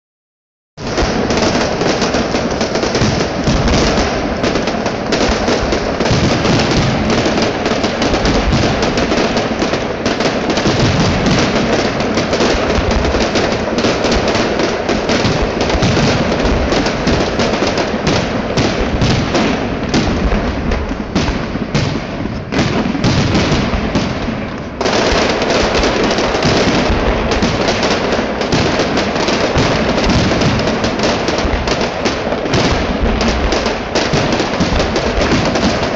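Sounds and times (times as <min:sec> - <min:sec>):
fireworks bursts and crackle: 0:00.8 - 0:35.9.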